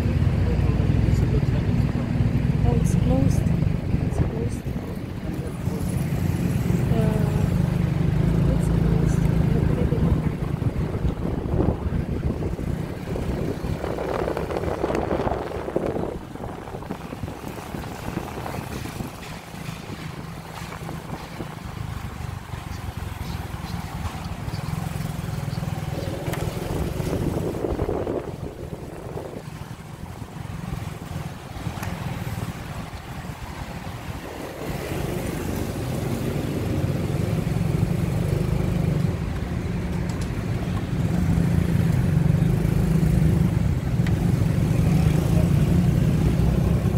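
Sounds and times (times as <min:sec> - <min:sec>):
motorcycle engine running: 0:00.0 - 0:40.0
other vehicles: 0:00.0 - 0:46.9
road noise: 0:00.0 - 0:46.9.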